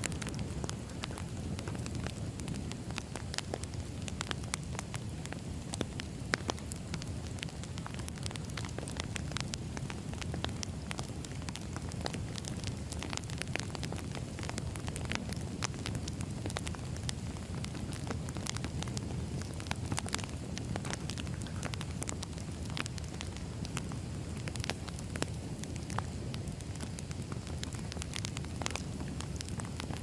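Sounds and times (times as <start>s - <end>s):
low rumble of flame: 0.0s - 30.0s
wood fire crackling and popping: 0.0s - 30.0s.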